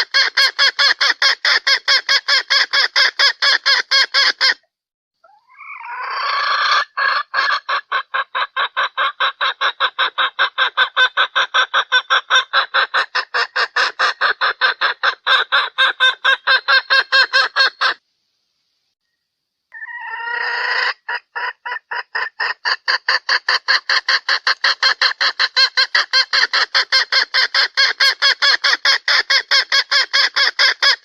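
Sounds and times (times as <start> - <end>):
junglefowl hen clucking call: 0.0 - 18.0, 19.7 - 31.0.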